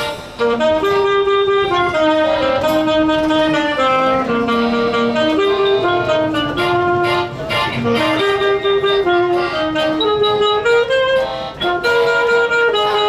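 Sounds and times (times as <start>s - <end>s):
saxophone melody: 0.0s - 13.0s.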